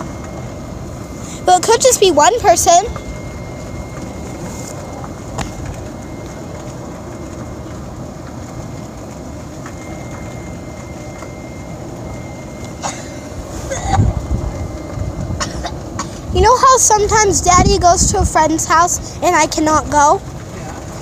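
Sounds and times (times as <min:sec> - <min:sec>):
golf cart rumbling: 0:00.0 - 0:21.0
wind buffeting microphone: 0:00.0 - 0:21.0.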